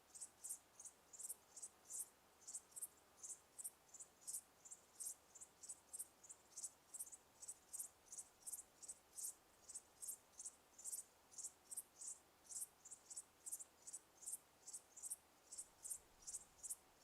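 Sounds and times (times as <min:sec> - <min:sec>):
crickets chirping: 0:00.1 - 0:16.8.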